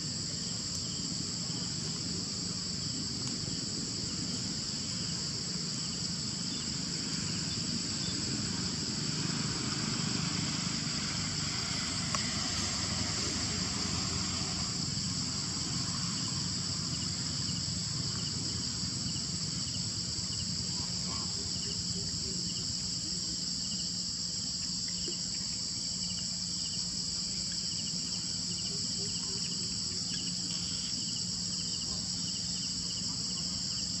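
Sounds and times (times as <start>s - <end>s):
insect chirps: 0.0s - 34.0s
insects droning: 0.0s - 34.0s.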